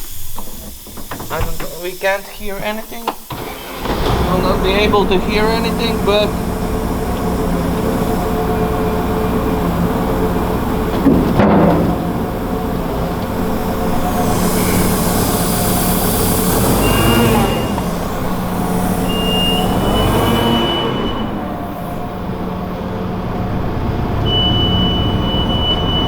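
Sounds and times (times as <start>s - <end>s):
air hissing: 0.0s - 11.0s, 12.0s - 22.8s
engine humming: 0.0s - 26.0s.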